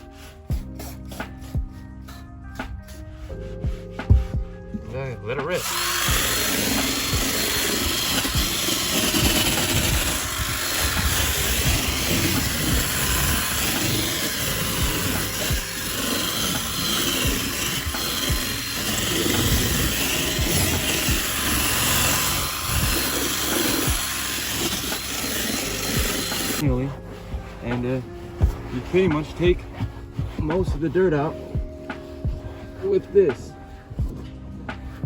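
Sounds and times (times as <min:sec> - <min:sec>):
drill spinning scrubbing brush: 0:00.0 - 0:02.2, 0:03.2 - 0:33.9
background music: 0:00.0 - 0:35.0.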